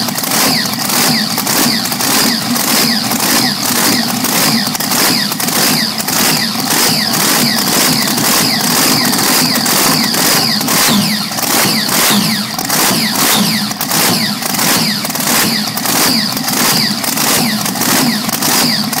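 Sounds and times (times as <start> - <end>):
race engine pulsing on test stand: 0.0 - 19.0.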